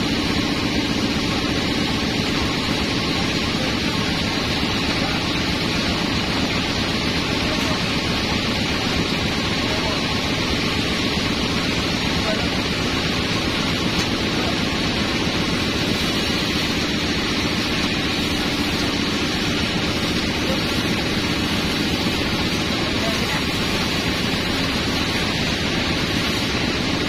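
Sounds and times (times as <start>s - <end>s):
band sawmill running: 0.0s - 27.0s.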